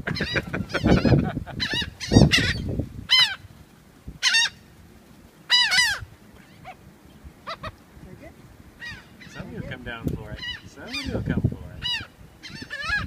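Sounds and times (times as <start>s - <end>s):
birds calling harshly: 0.0s - 3.5s, 4.2s - 4.8s, 5.4s - 13.0s.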